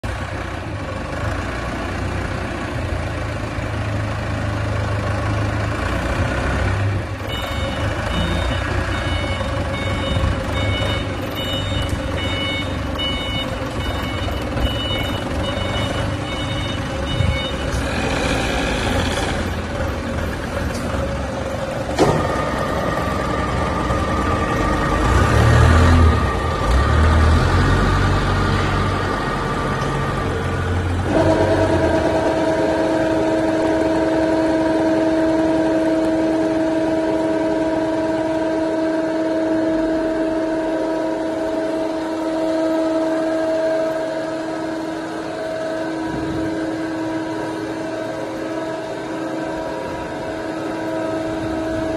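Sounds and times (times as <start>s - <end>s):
hydraulic pump whine: 7.3s - 28.0s, 28.6s - 51.9s.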